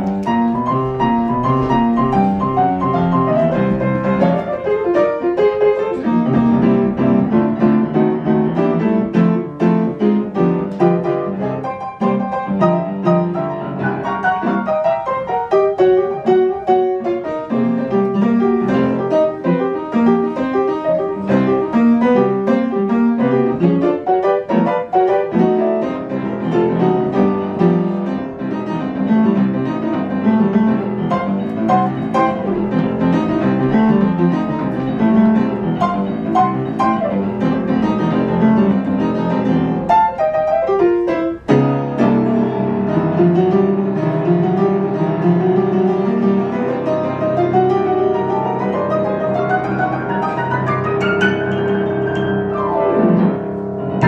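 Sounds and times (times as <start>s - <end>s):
solo jazz piano: 0.0s - 54.0s.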